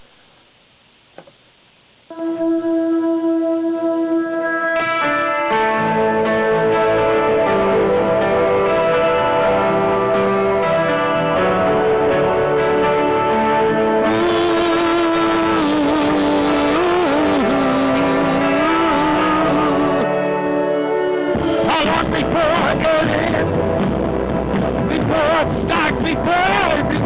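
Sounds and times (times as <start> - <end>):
wavering guitar lead line: 2.1 - 27.0
rock band playing: 4.4 - 27.0.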